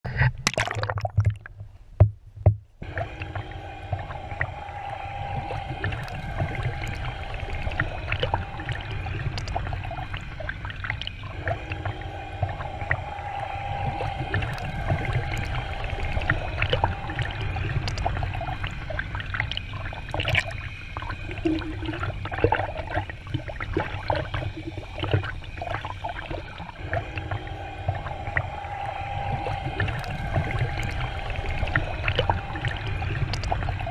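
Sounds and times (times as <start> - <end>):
underwater clicks and ticks: 0.0 - 33.9
water splashes: 0.1 - 1.6, 2.8 - 33.9
underwater flowing water rumble: 0.1 - 33.9
mid-pitched hum: 2.1 - 33.9.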